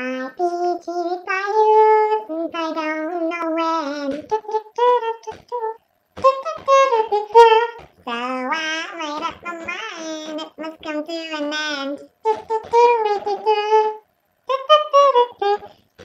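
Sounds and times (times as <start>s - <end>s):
high-pitched young voices singing: 0.0s - 15.8s.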